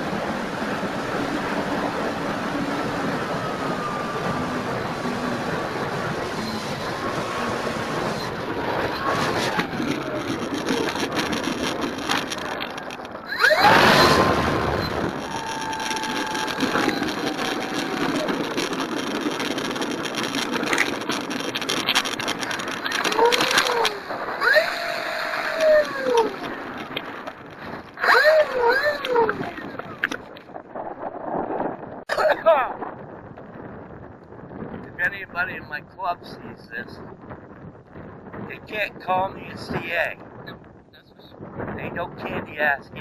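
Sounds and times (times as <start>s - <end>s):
wind rush on microphone: 0.0s - 43.0s.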